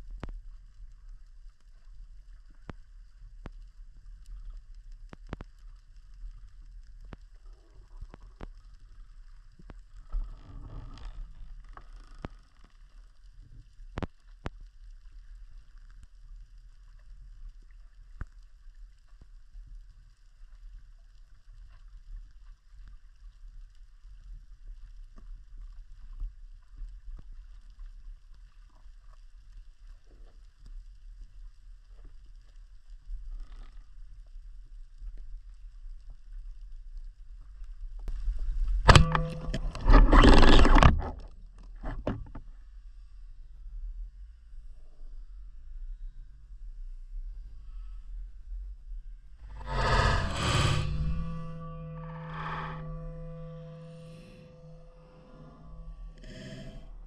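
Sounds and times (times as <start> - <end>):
low underwater rumble: 0.0 - 57.0.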